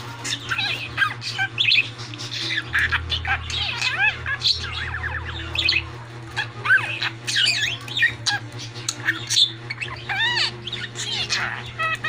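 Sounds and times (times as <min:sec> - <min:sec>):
budgerigar chattering: 0:00.0 - 0:12.0.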